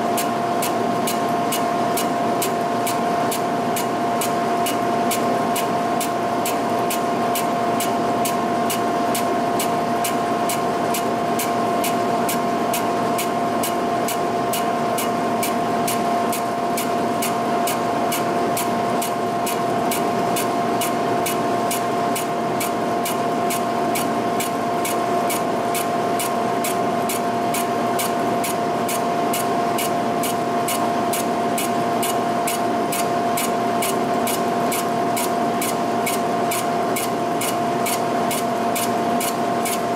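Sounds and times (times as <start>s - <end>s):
cutter ticking: 0.2s - 3.0s, 3.8s - 39.8s.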